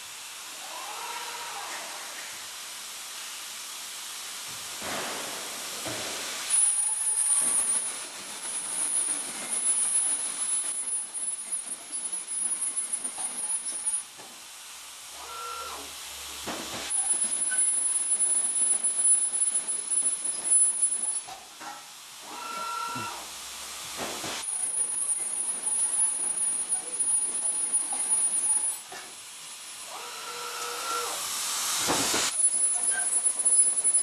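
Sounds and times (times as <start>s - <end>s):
welding arc hissing and crackling: 1.9s - 29.9s, 30.6s - 34.0s.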